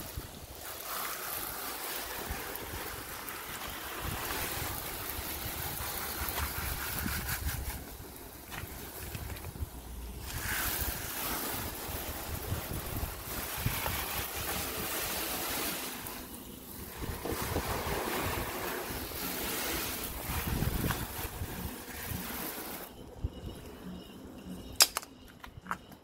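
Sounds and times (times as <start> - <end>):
hose water spraying on car: 0.0 - 23.8.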